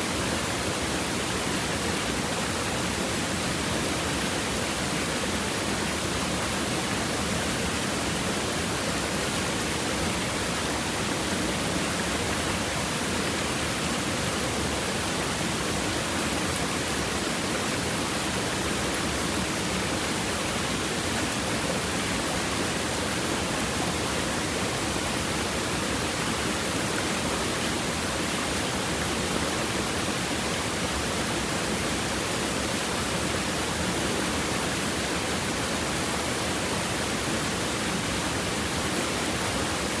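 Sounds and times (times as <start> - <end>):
river water rushing over rocks: 0.0 - 40.0.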